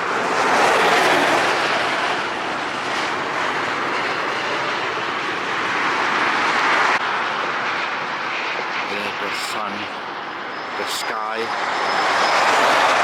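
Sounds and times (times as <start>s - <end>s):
car road and wind noise: 0.0s - 13.0s.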